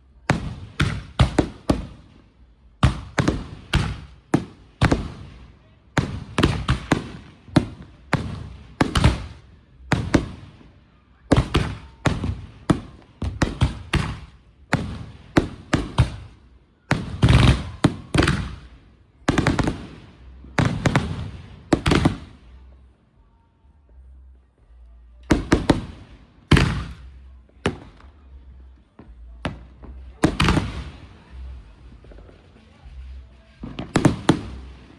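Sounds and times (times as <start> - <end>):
fireworks banging: 0.2 - 22.7, 25.2 - 34.9.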